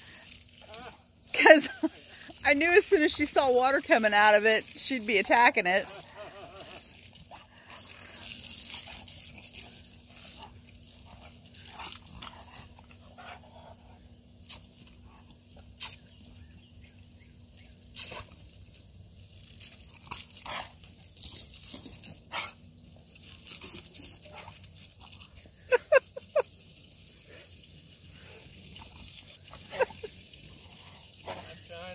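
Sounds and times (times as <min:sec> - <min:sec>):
water stream from garden hose: 0:00.0 - 0:31.9.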